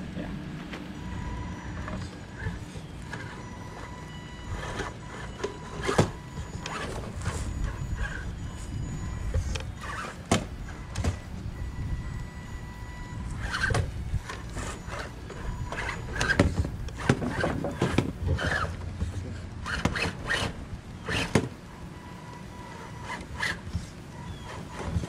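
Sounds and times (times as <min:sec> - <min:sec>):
low motor drone: 0:00.0 - 0:25.0.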